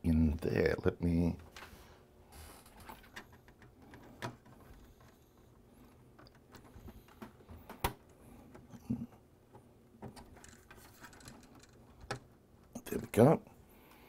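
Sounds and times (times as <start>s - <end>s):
cables clicking and rustling: 1.2s - 14.0s.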